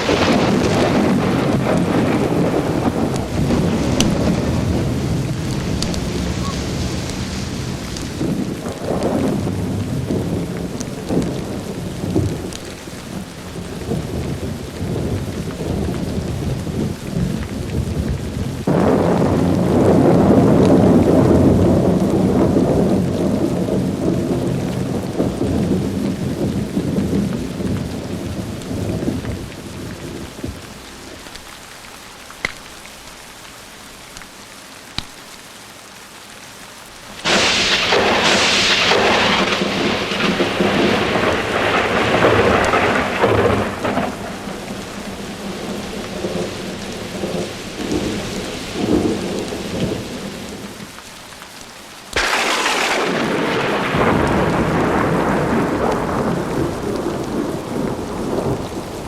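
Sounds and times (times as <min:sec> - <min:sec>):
rolling thunder: 0:00.0 - 0:30.6, 0:37.2 - 0:50.8, 0:52.2 - 0:59.0
fire crackling: 0:00.0 - 0:59.0
rain: 0:00.0 - 0:59.0.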